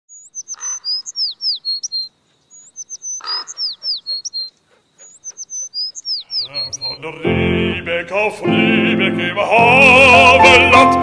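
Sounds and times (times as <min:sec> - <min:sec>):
songbird singing: 0:00.1 - 0:11.0.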